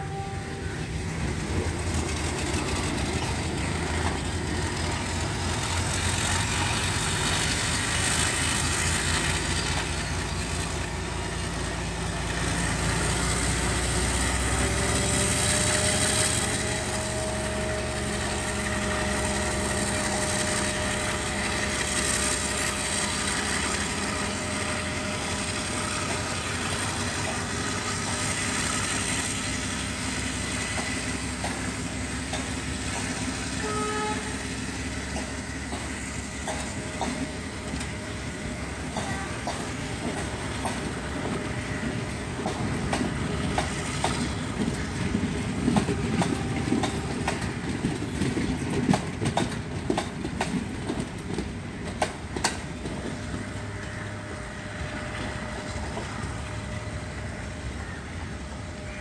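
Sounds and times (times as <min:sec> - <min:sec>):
diesel locomotive engine drone: 0:00.0 - 0:59.0
train coaches rolling by: 0:00.0 - 0:59.0.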